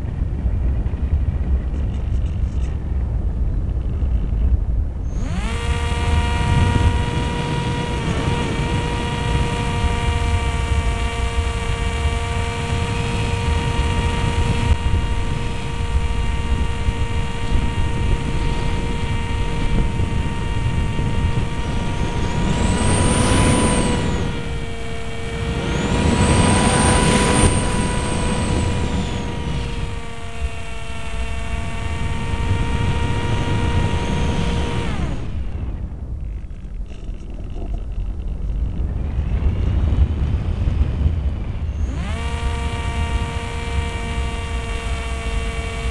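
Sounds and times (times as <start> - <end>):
electric motor and propeller whining: 0.0 - 45.9.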